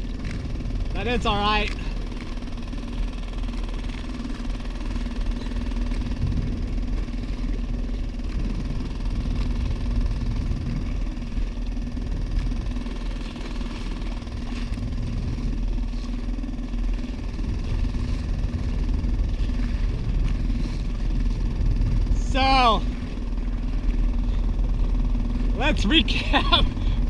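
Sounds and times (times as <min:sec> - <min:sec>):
boat motor humming: 0:00.0 - 0:27.0
wind rumble on microphone: 0:00.0 - 0:27.0.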